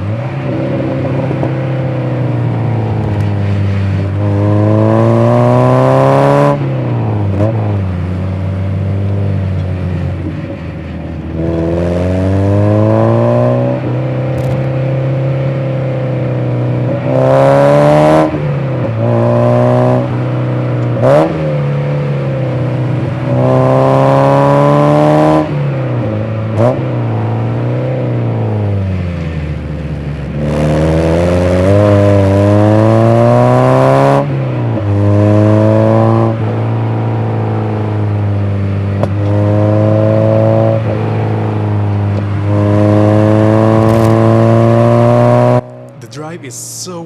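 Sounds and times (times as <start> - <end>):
car engine revving through gears: 0.0 - 46.0.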